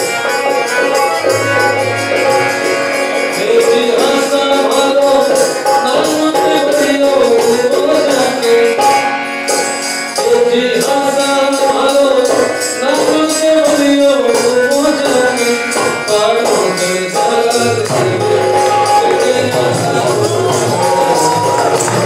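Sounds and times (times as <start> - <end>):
hand drum beat: 0.0 - 22.0
harmonium: 0.0 - 22.0
high percussion beat: 0.0 - 22.0
man singing: 3.2 - 22.0.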